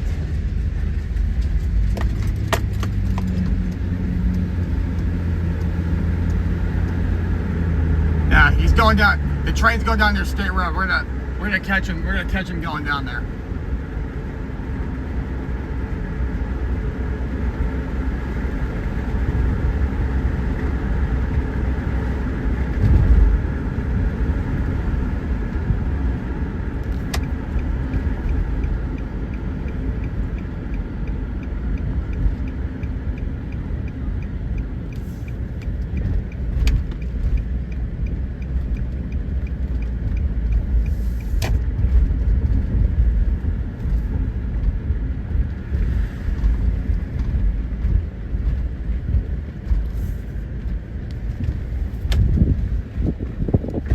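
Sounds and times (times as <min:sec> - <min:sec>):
car engine and road noise: 0:00.0 - 0:53.9
turn signal ticking: 0:00.2 - 0:53.9.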